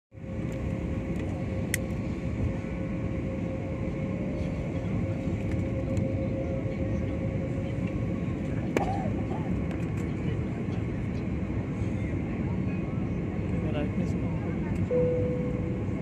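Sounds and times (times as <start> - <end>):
jet cabin engine rumble and hum: 0.2 - 16.0.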